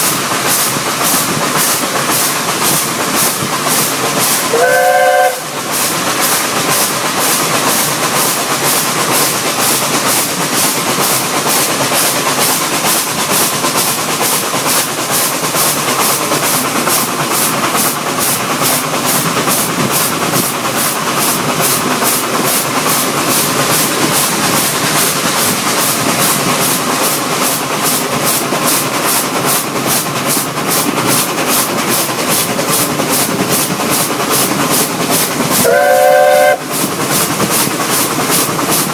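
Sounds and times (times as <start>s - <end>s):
hiss of steam: 0.0s - 38.9s
rail noise: 0.0s - 38.9s
steam locomotive exhaust beats: 0.0s - 38.9s.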